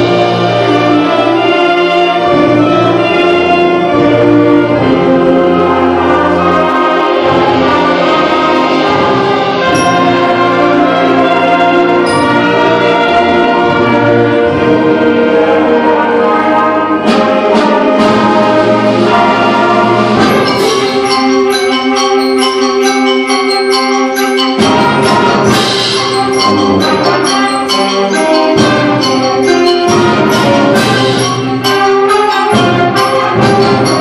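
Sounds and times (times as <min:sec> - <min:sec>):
concert band playing: 0:00.0 - 0:34.0.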